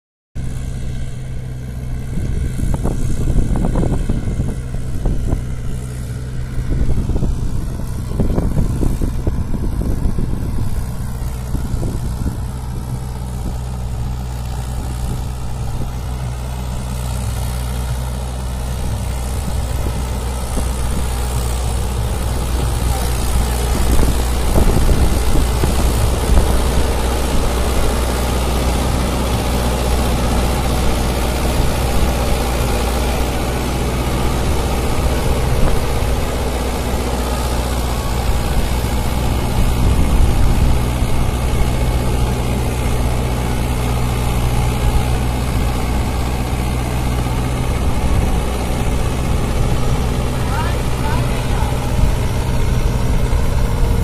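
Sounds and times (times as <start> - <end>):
diesel tractor engine running: 0.4 - 54.0.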